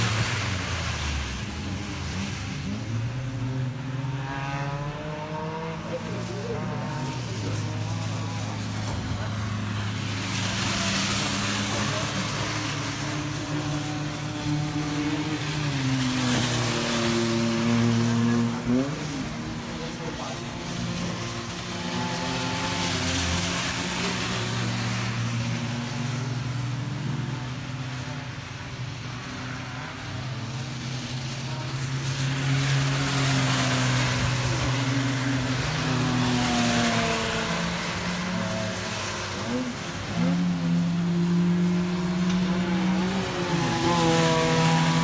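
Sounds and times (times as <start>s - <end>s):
car engines at high revs: 0.0s - 45.0s.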